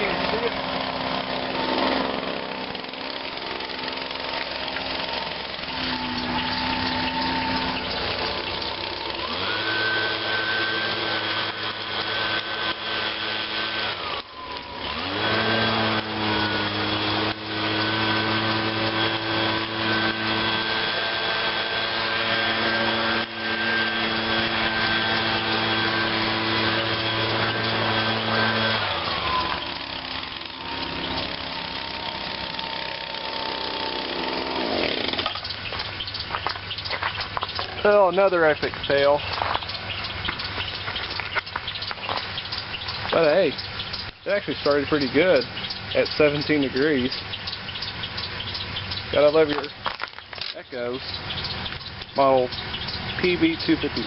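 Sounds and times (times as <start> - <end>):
handheld blower engine revving: 0.0 - 54.0.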